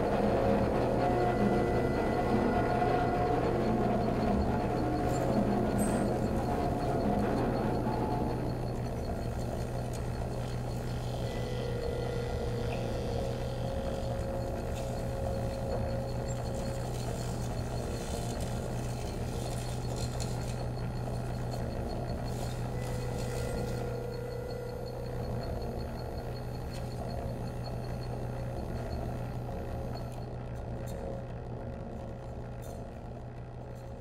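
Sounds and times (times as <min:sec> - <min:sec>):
low electronic drone: 0:00.0 - 0:30.0
held electronic tones: 0:00.8 - 0:30.2.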